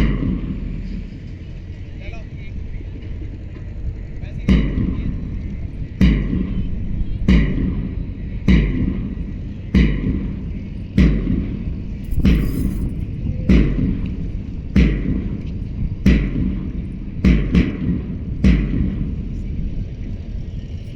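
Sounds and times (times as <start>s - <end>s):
low rumble: 0.0s - 20.9s.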